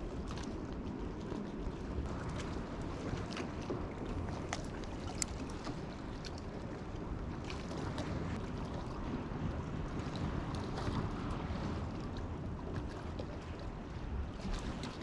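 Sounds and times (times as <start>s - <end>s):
water lapping at shore: 0.0s - 15.0s
wind on microphone: 0.0s - 15.0s.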